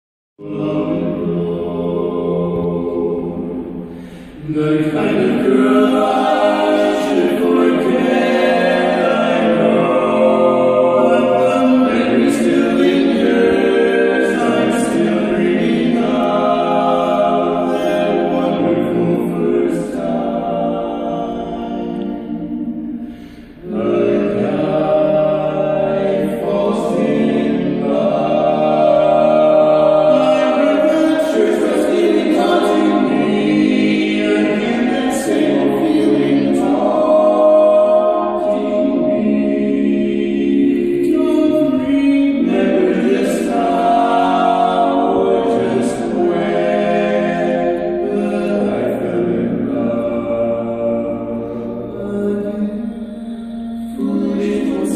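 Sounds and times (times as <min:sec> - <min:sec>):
men singing in harmony: 0:00.4 - 0:54.9.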